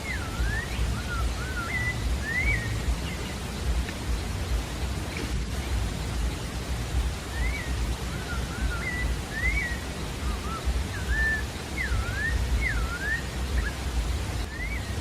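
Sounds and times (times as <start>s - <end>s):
low rumble and hiss: 0.0s - 15.0s
thrush singing: 0.0s - 15.0s.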